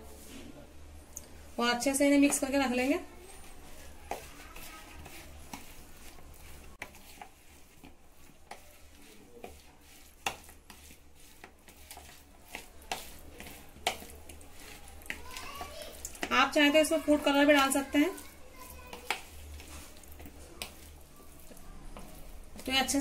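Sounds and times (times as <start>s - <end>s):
hand mixing food in a bowl: 1.2s - 23.0s.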